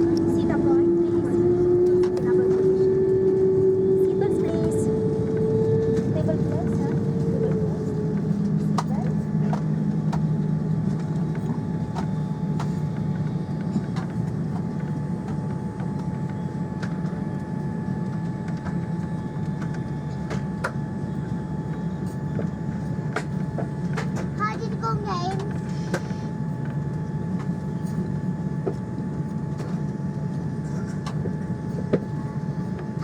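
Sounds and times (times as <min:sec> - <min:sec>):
airliner cabin hum: 0:00.0 - 0:33.0.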